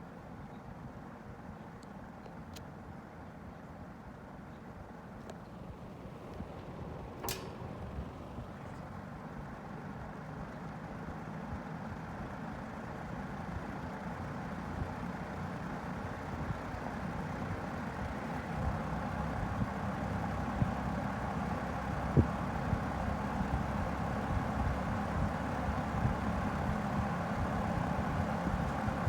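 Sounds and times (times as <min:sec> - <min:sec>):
box fan running: 0:04.8 - 0:29.0.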